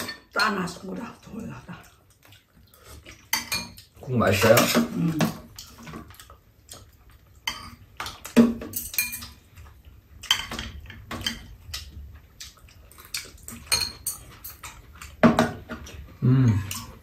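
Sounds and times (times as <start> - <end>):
metal cutlery clinking on bowls: 0.0 - 1.5, 2.7 - 17.0.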